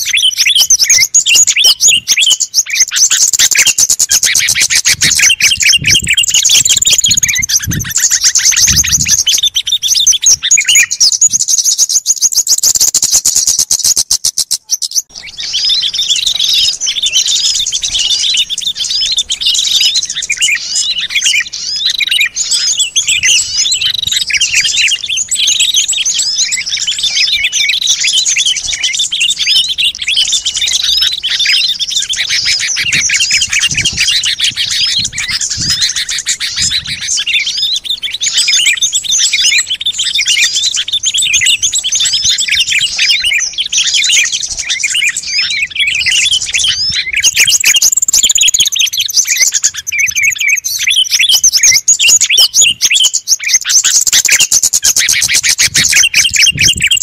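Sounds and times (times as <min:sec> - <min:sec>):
buzzy rattling bird trill: 0:00.0 - 0:57.0
songbirds chirping and twittering: 0:00.0 - 0:57.0.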